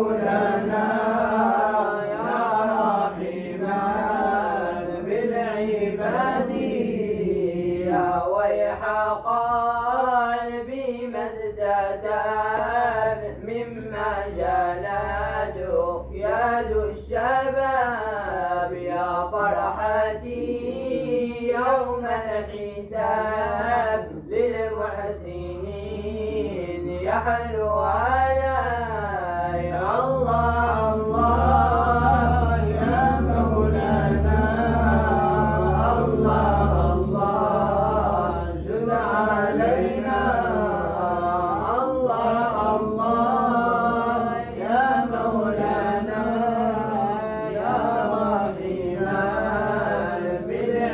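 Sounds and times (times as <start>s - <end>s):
low steady vocal drone: 0.0s - 50.9s.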